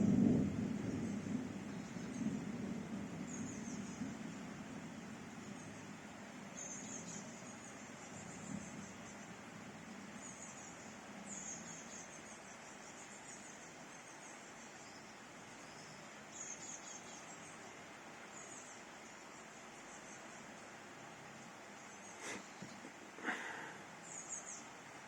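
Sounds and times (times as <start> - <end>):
faint rain hiss: 0.0 - 25.0.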